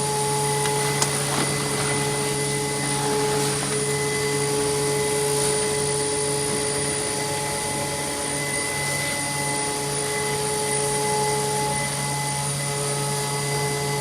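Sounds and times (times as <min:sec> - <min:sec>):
sealing machine hum and hiss: 0:00.0 - 0:14.0.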